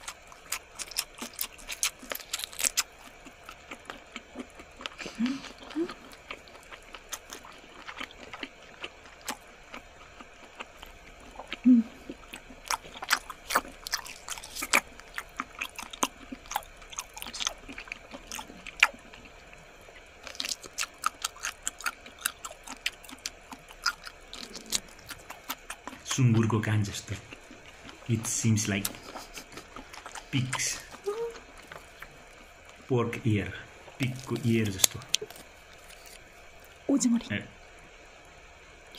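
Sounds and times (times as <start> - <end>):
biting and chewing squid: 0.0 - 32.9, 33.8 - 36.8.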